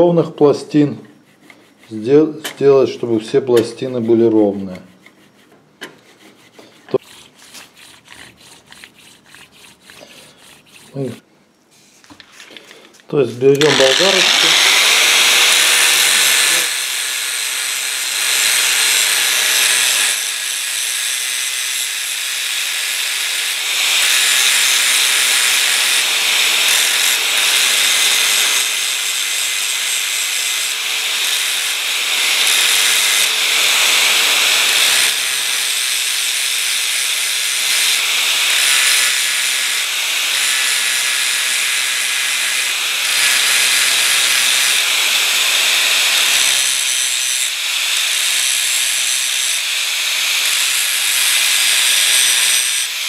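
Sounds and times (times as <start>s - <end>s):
angle grinder grinding metal: 0.8s - 11.2s, 13.5s - 53.0s.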